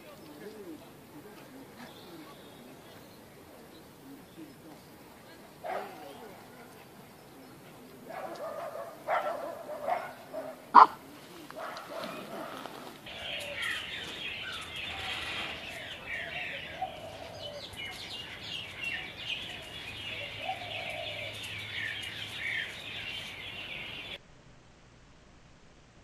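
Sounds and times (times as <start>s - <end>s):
small birds chirping: 0.0s - 24.2s.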